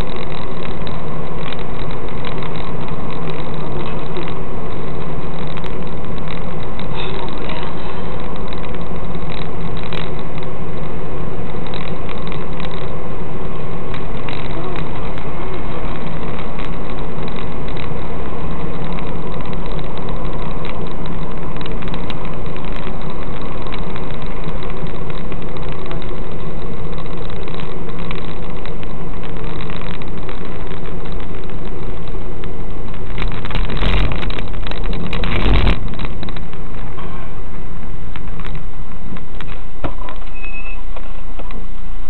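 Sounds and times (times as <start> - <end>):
car engine running: 0.0 - 40.3.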